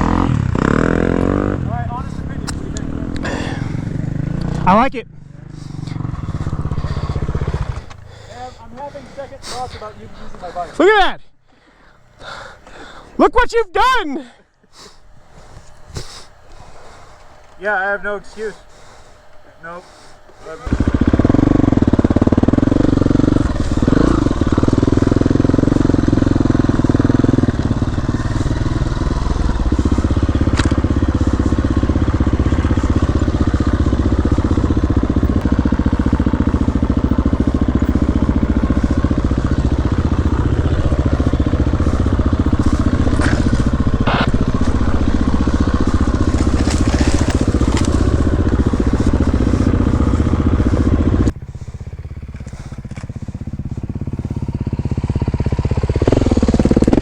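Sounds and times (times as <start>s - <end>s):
dirt bike engine running: 0.0s - 11.0s, 15.1s - 57.0s.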